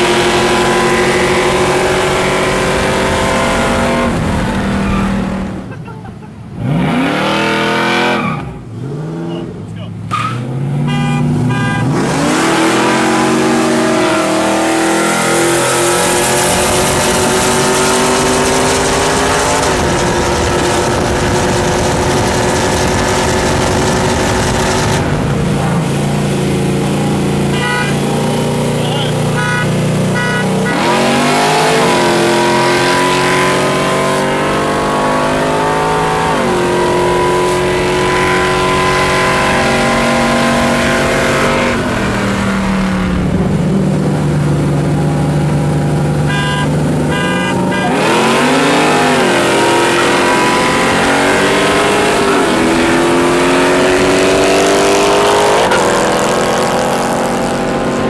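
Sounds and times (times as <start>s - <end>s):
car engines at full throttle: 0.0s - 58.0s.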